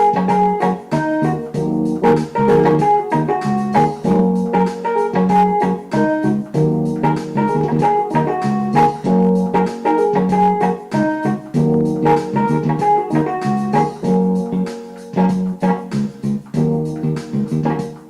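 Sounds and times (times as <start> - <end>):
organ and keyboard chords: 0.0 - 18.0
steady beat: 0.0 - 18.0.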